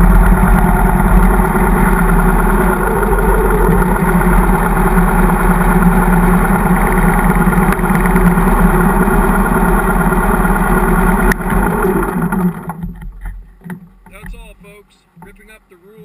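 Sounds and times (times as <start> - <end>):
motorcycle engine idling: 0.0 - 15.6.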